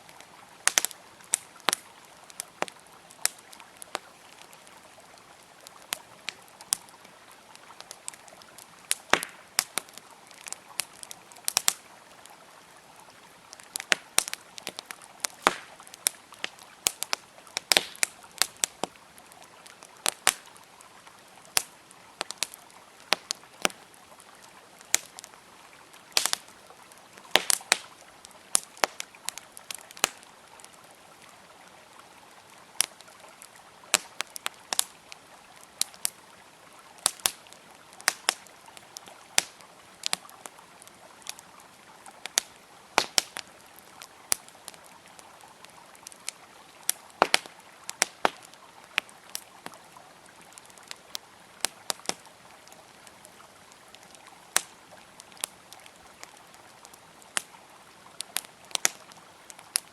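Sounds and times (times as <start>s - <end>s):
campfire crackling and popping: 0.0s - 59.9s
flowing river: 0.0s - 59.9s.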